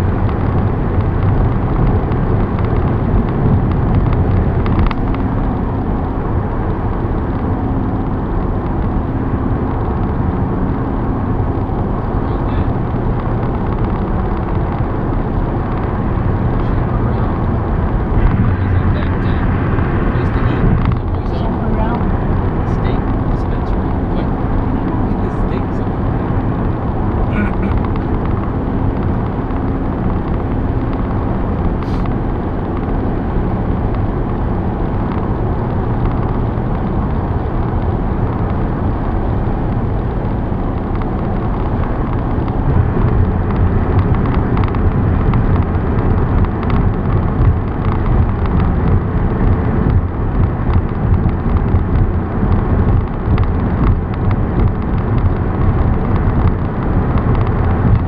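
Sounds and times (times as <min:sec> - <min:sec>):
car engine: 0:00.0 - 0:58.0
wind noise: 0:00.0 - 0:58.0.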